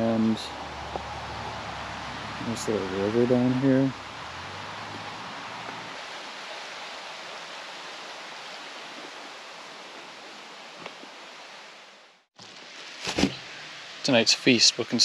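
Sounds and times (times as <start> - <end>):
water rushing over stones: 0.8 - 15.0.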